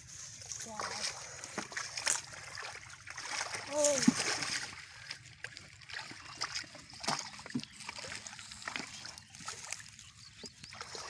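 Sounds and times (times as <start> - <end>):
muddy water sloshing: 0.0 - 11.0
sharp water splashes: 0.7 - 10.0.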